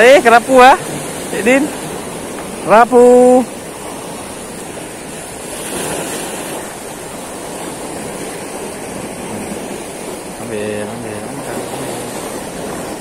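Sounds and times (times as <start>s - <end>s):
surf washing against rocks: 0.0s - 13.0s.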